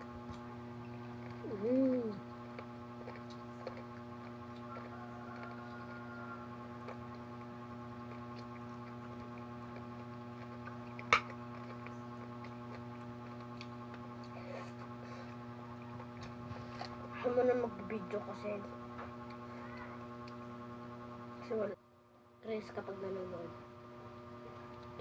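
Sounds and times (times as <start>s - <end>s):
faint eating sounds: 0.0s - 21.8s
electrical hum: 0.0s - 25.0s.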